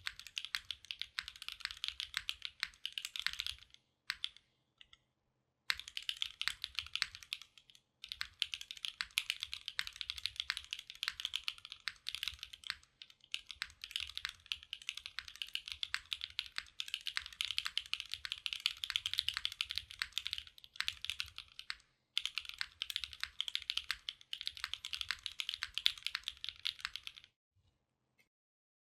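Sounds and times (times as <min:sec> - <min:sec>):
mechanical keyboard typing: 0:00.0 - 0:04.4, 0:05.7 - 0:27.3.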